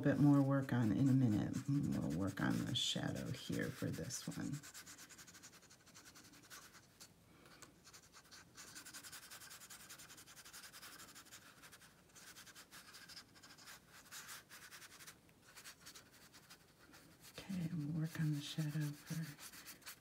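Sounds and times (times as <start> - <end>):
brush strokes on paper: 0.0 - 20.0.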